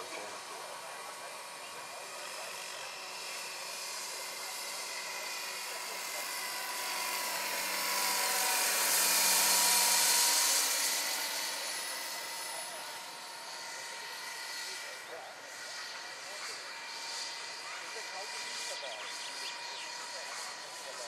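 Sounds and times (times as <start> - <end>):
electric drive whine: 0.0 - 21.0.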